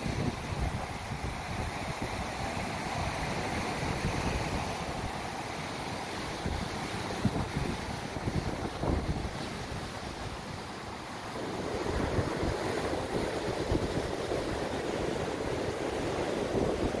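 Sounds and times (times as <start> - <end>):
wind buffeting microphone: 0.0 - 5.2, 6.2 - 17.0
sea surf washing on rocks: 0.0 - 17.0.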